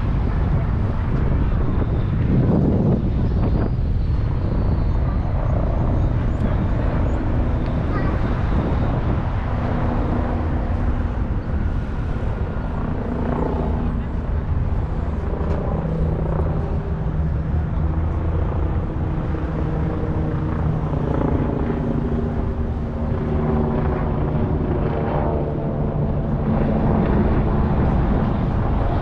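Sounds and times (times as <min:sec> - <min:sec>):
low engine drone: 0:00.0 - 0:29.0.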